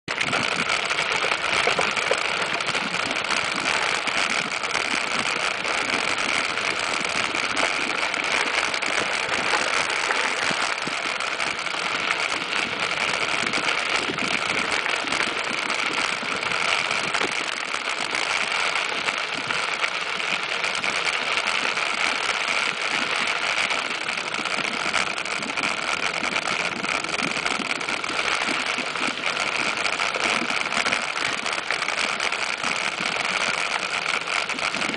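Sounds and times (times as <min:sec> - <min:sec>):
bike tyres on dirt trail: 0:00.1 - 0:34.9.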